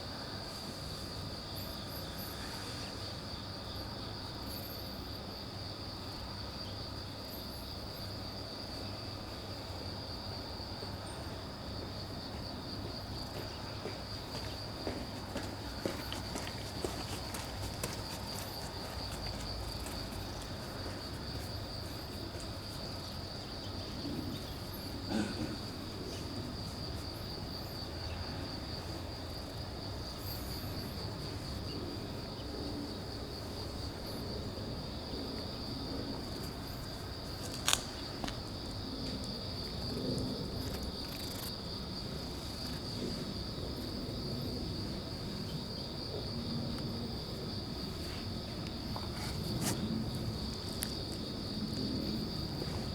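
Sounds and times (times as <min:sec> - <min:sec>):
insects trilling: 0:00.0 - 0:52.9.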